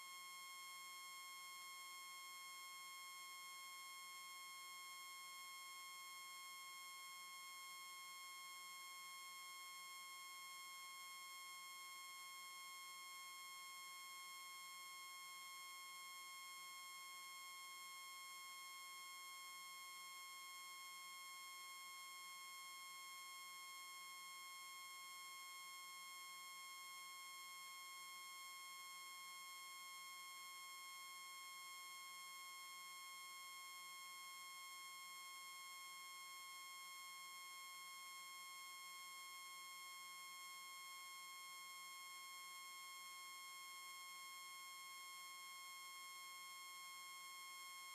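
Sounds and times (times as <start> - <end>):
faint high-pitched electronic whine: 0.0 - 47.9.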